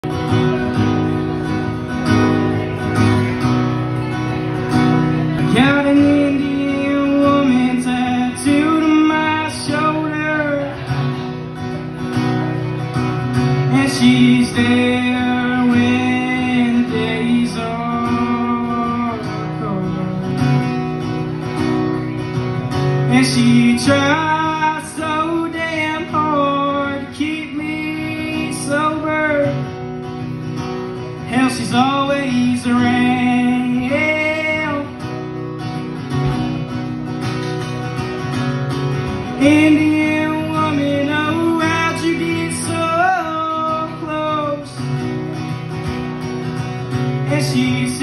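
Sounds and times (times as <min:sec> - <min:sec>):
acoustic guitar strummed and picked: 0:00.0 - 0:48.0.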